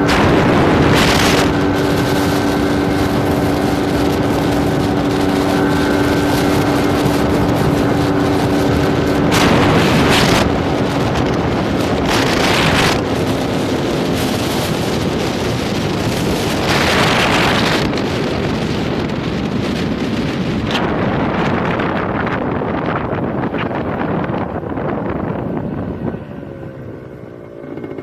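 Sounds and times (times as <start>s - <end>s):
motorcycle engine: 0.0s - 28.0s
wind buffeting microphone: 0.0s - 28.0s.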